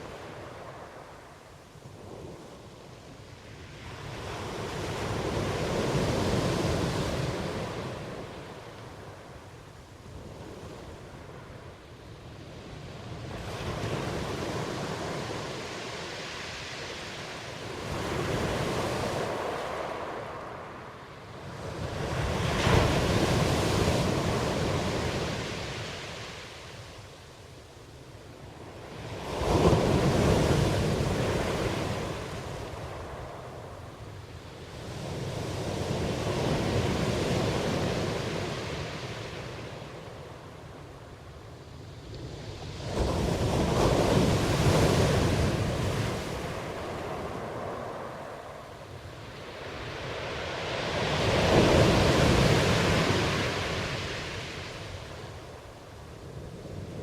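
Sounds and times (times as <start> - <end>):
ocean waves surging and washing: 0.0 - 57.0.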